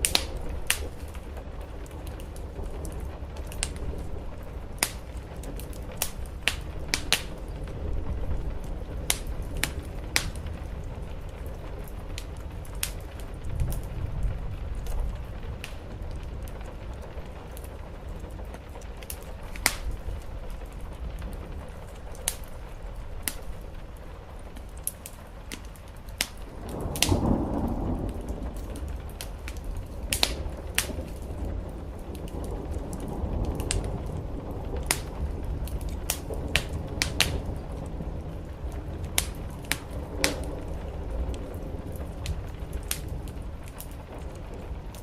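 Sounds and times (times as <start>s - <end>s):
steady rain: 0.0s - 45.0s
wood fire crackling and popping: 0.0s - 45.0s.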